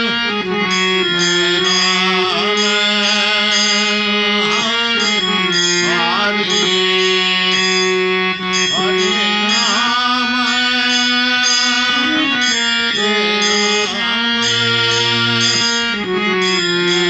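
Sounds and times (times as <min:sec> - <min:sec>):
devotional music with drone: 0:00.0 - 0:17.0.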